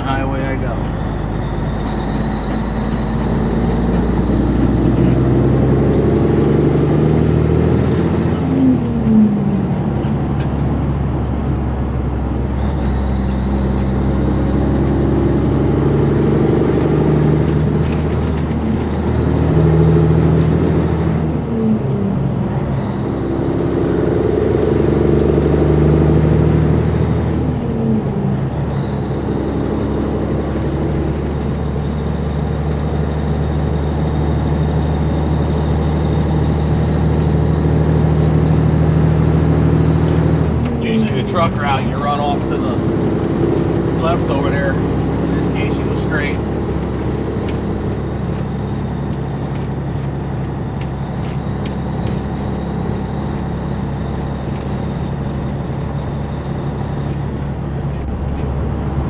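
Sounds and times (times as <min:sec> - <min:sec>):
truck diesel engine accelerating: 0:00.0 - 0:59.0.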